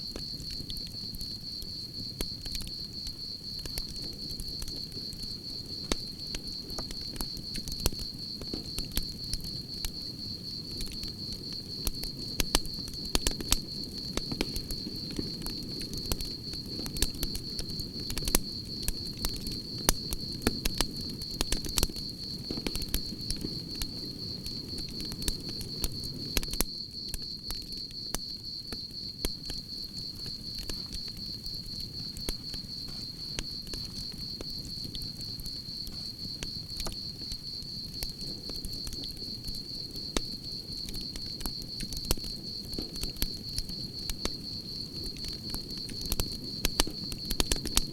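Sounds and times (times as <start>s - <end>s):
crickets trilling: 0.0s - 47.9s
campfire crackling and popping: 0.1s - 47.9s.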